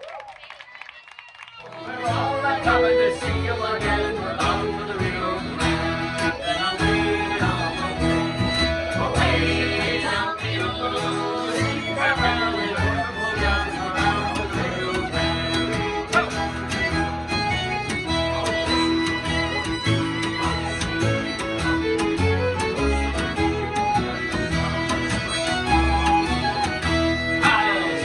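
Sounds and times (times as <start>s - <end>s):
fiddle melody: 1.6s - 28.0s
acoustic guitar accompaniment: 1.7s - 28.0s.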